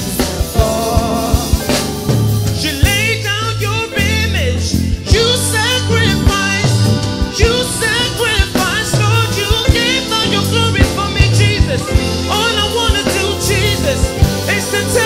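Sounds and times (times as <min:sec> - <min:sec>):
band with drums and bass: 0:00.0 - 0:15.0
man singing gospel: 0:00.0 - 0:15.0.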